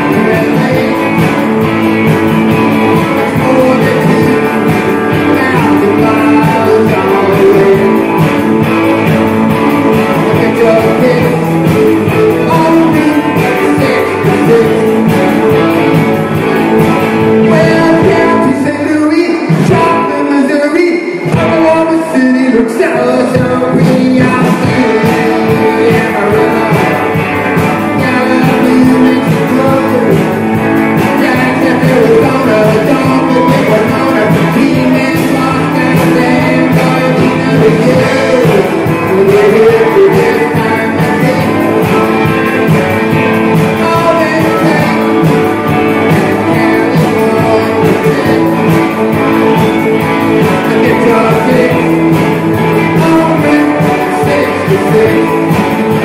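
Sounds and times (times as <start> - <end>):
guitar: 0.0 - 56.0
person singing: 0.0 - 56.0
rock and roll band playing: 0.0 - 56.0.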